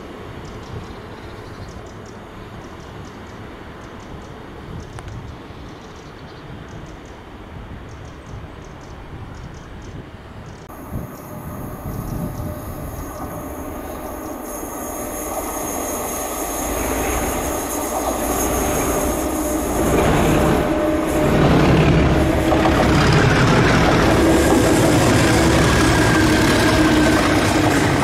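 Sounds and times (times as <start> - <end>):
diesel train approaching: 0.0 - 28.0.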